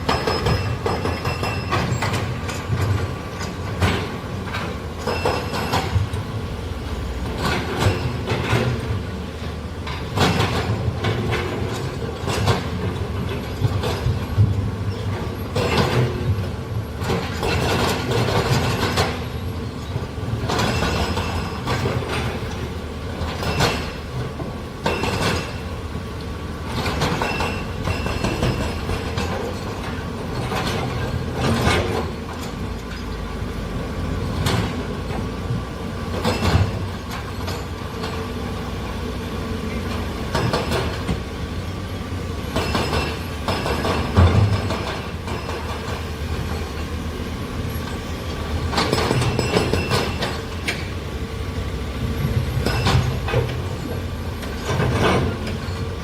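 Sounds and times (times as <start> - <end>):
metal clanks and knocks: 0.0 - 6.3, 7.2 - 9.1, 9.8 - 25.8, 26.7 - 33.3, 34.2 - 38.4, 39.7 - 41.3, 42.4 - 47.0, 47.8 - 51.0, 52.2 - 56.0.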